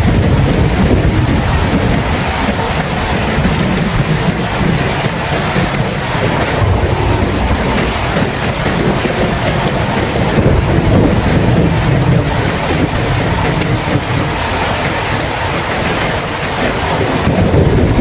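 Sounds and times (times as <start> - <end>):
low rumble of thunder: 0.0 - 14.6, 16.8 - 18.0
heavy rain: 0.0 - 18.0.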